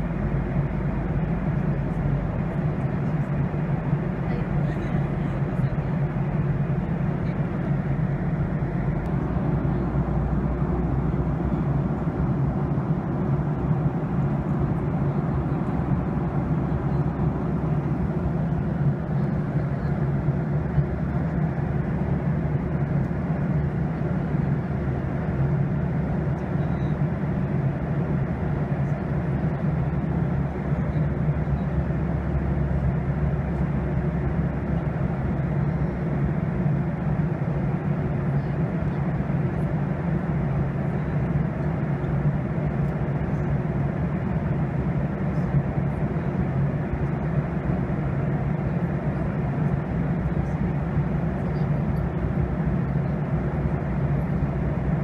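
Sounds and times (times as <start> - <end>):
jet engines and airflow rushing: 0.0 - 55.0.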